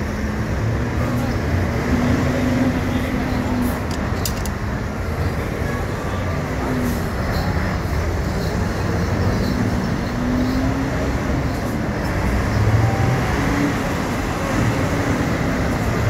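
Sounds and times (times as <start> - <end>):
diesel trucks passing: 0.0 - 16.0
road noise: 0.0 - 16.0.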